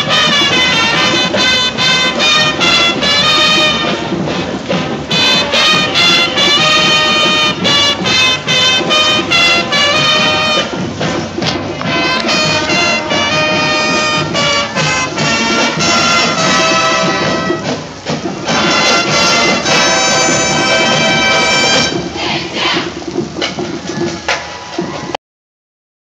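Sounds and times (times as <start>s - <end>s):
brass holding chords: 0.0s - 22.1s
drums and cymbals: 0.0s - 25.2s.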